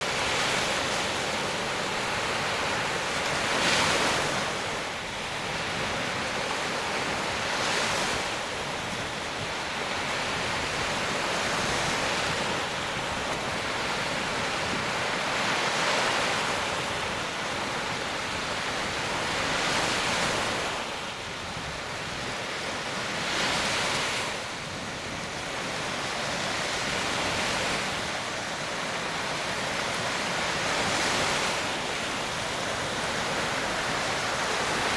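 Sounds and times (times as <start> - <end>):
waves breaking on sandy beach: 0.0 - 34.9.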